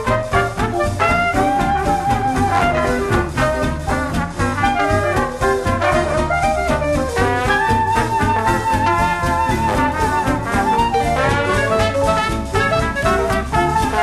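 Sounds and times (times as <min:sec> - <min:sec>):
upbeat swing jazz: 0:00.0 - 0:14.0.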